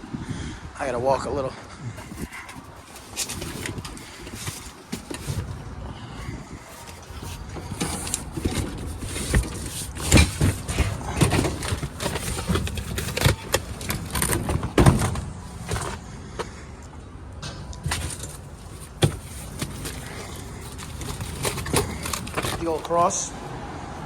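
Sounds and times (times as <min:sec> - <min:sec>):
handling knocks and rustling: 0:02.0 - 0:16.5, 0:17.4 - 0:23.3.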